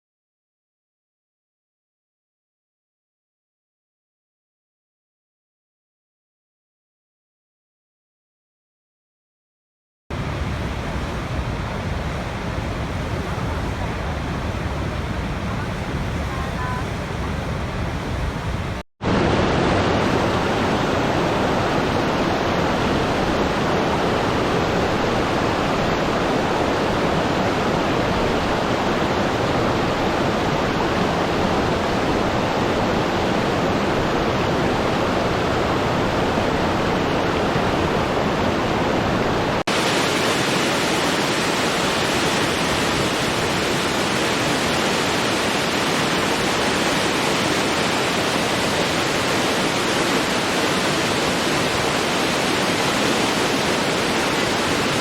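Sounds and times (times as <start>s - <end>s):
waterfall roaring: 10.2s - 55.0s.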